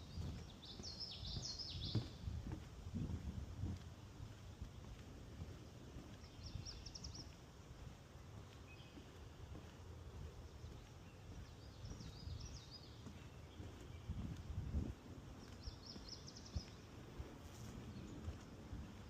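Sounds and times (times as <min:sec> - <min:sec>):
faint songbird calls: 0:00.0 - 0:02.3, 0:04.4 - 0:19.0.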